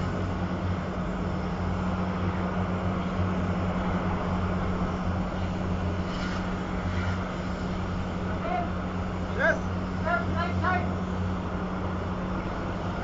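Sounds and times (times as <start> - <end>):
large diesel engine running: 0.0 - 13.0.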